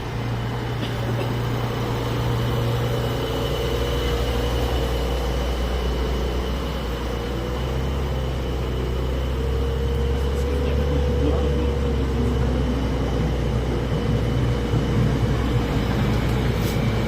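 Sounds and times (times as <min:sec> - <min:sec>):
electric tram humming: 0:00.0 - 0:17.0.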